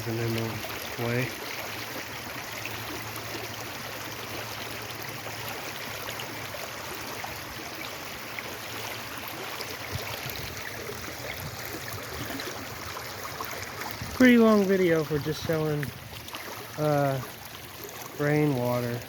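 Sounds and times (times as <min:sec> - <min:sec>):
stream rushing and gurgling: 0:00.0 - 0:19.0.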